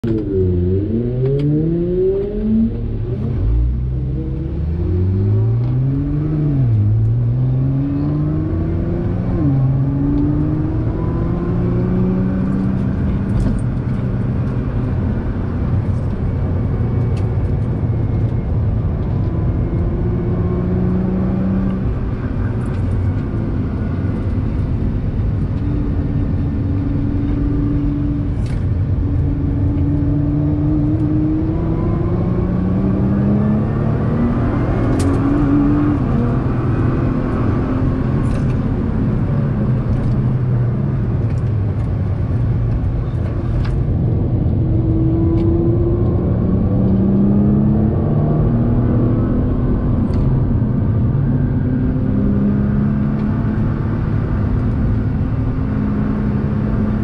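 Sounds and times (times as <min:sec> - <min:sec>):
car engine revving: 0:00.0 - 0:57.0
road and tyre noise: 0:00.0 - 0:57.0.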